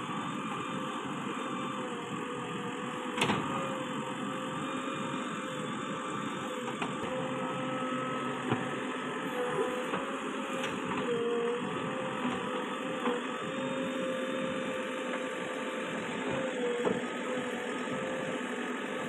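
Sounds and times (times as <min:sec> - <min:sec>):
diesel engine running under load: 0:00.0 - 0:19.0
hydraulic whine: 0:00.0 - 0:19.0.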